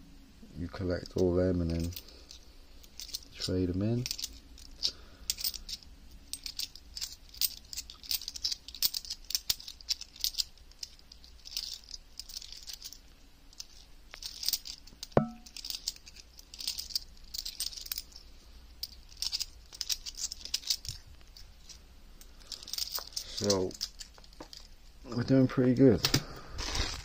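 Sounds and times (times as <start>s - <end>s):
coins clinking and rattling: 1.6s - 24.8s.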